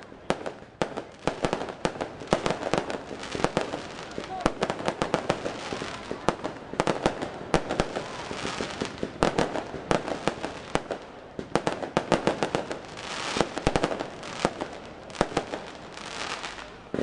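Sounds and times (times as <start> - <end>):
fireworks bangs: 0.0 - 17.0
fireworks hissing: 1.4 - 17.0.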